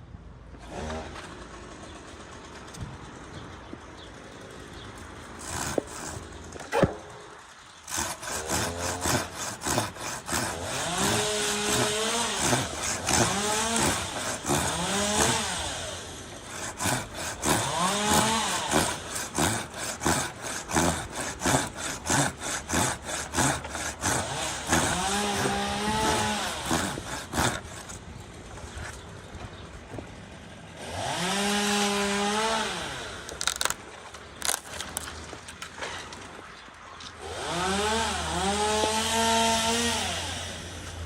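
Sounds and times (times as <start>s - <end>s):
hand saw cutting wood: 0.6s - 2.8s, 4.4s - 30.1s, 30.8s - 41.0s.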